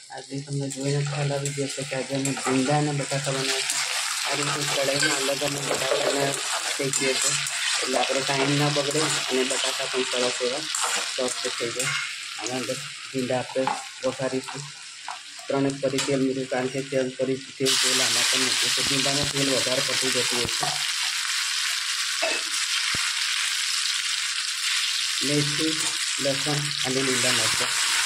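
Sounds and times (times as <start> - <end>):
hot oil sizzling loudly: 0.0 - 28.0.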